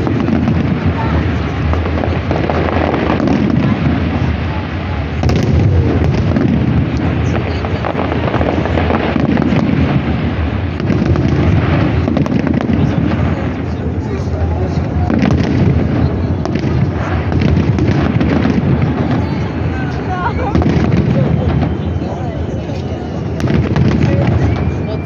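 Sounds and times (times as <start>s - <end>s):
fireworks bangs and crackling: 0.0s - 25.0s.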